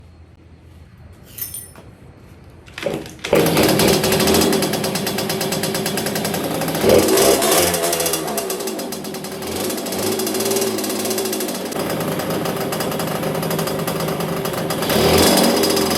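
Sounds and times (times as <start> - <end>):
two-stroke engine starting and revving: 2.7 - 15.9.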